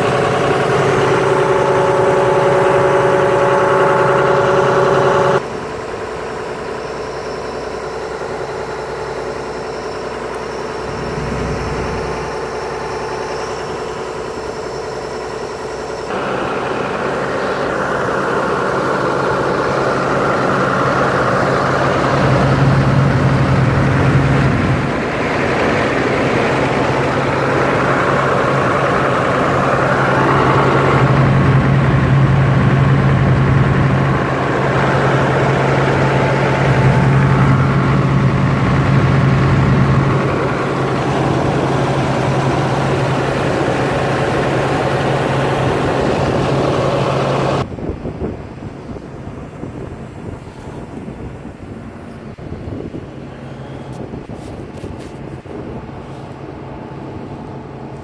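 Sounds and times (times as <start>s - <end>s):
excavator diesel engine idling: 0.0s - 47.7s.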